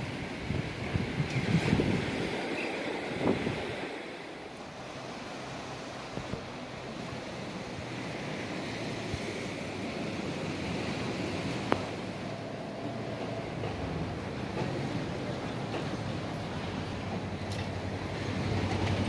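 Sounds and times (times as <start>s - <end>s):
sea surf: 0.0s - 19.0s.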